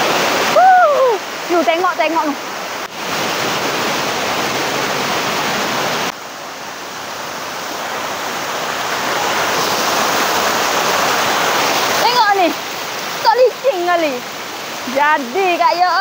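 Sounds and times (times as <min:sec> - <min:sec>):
waterfall cascading: 0:00.0 - 0:16.0.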